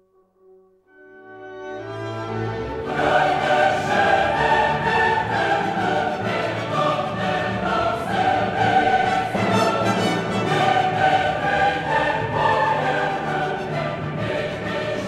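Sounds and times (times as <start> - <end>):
choir singing with orchestra: 1.3 - 15.0.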